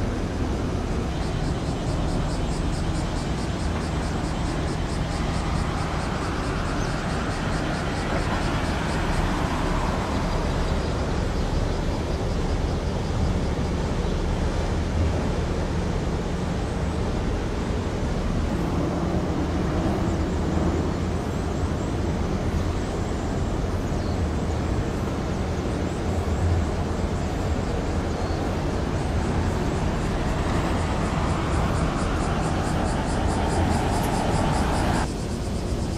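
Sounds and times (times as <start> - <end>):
outdoor background hiss: 0.0 - 35.9.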